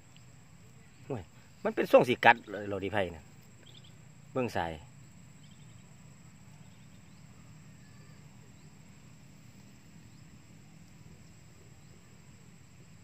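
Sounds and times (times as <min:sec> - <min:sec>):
faint chirps: 0:00.0 - 0:13.0
insects droning: 0:00.0 - 0:13.0.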